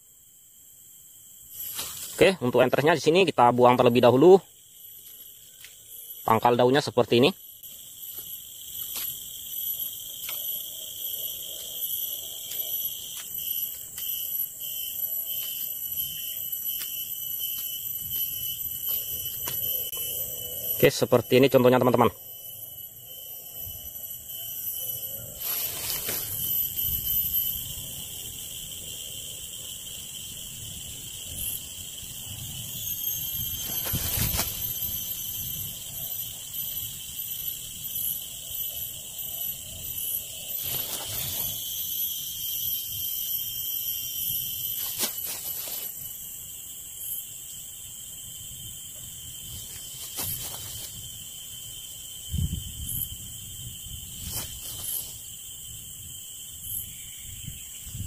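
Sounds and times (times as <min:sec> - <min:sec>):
insect drone: 0:00.0 - 0:58.0.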